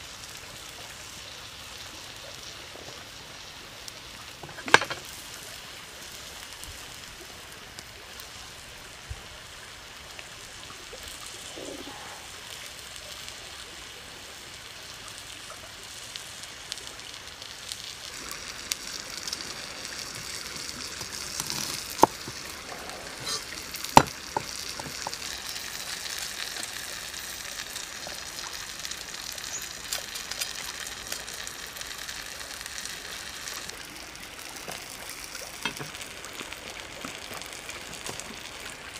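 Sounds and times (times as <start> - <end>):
shrimp sizzling on hot stone: 0.0 - 38.9.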